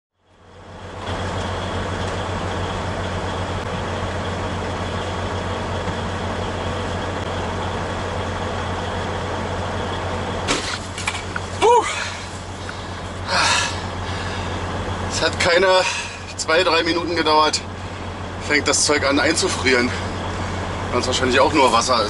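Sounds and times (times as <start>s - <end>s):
diesel truck engine idling: 0.2s - 22.0s.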